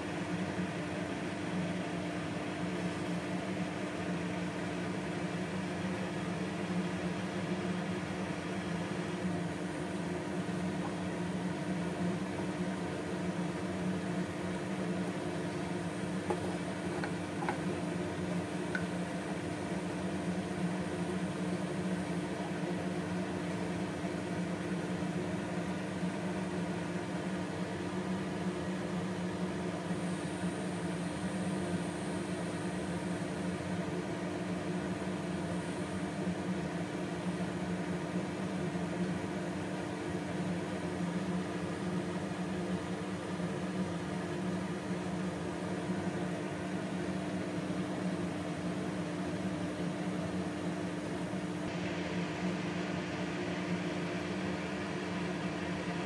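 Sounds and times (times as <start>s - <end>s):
fan motor humming: 0.0s - 56.0s.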